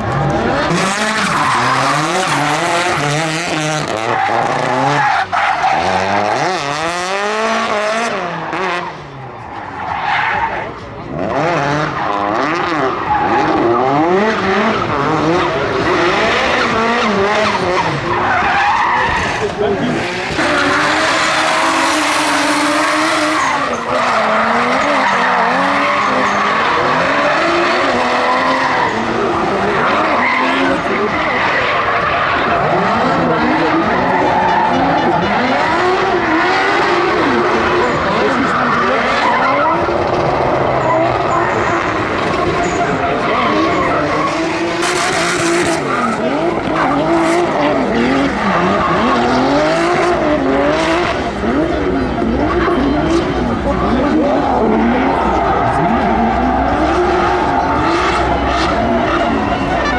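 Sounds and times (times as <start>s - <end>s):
car engine revving hard: 0.0s - 9.5s, 11.0s - 59.9s
tyres screeching on asphalt: 0.0s - 59.9s.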